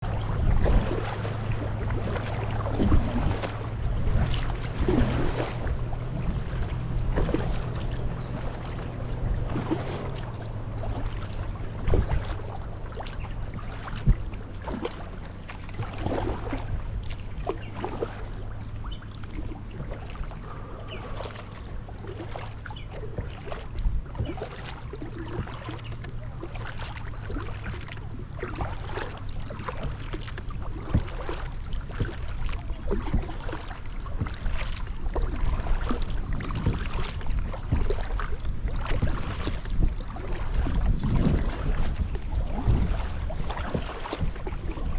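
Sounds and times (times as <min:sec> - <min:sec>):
paddle splashing in water: 0:00.0 - 0:44.9
steady low rumble: 0:00.0 - 0:44.9.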